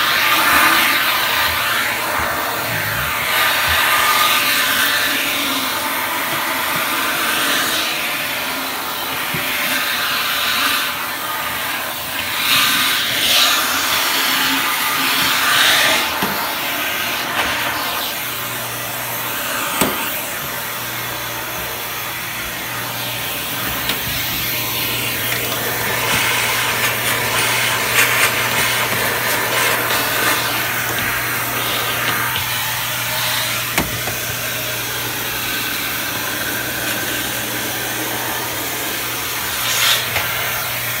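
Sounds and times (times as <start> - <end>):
vacuum cleaner suction: 0.0 - 41.0.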